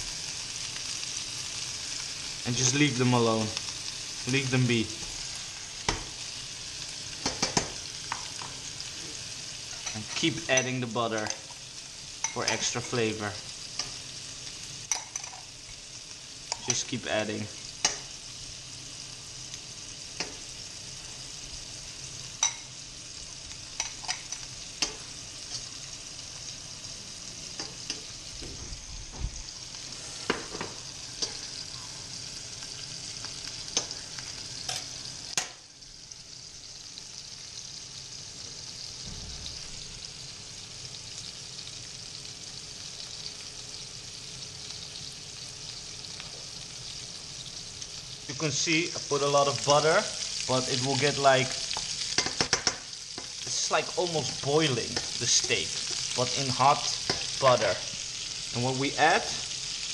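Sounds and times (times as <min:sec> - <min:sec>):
steaks sizzling in a pan: 0:00.0 - 0:59.9.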